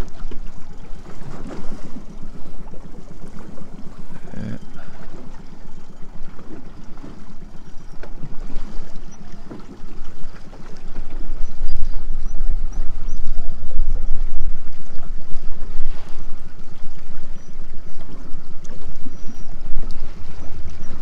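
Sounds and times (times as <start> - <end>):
outboard motor running: 0.0 - 21.0
water splashing along hull: 0.0 - 21.0.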